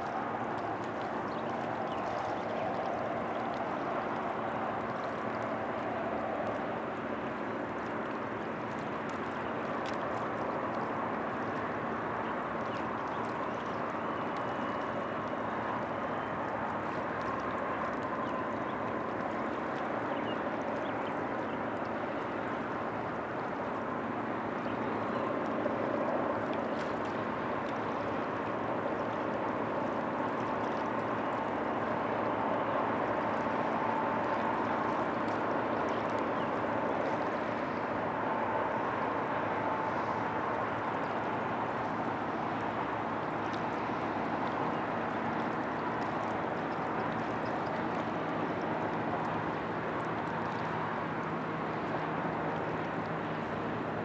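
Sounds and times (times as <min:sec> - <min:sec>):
faint hum: 0:00.0 - 0:54.0
river water flowing: 0:00.0 - 0:54.0.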